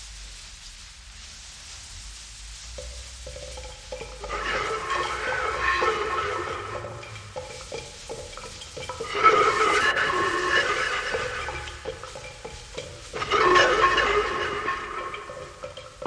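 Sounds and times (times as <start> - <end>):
percussion rattling: 2.6 - 16.0.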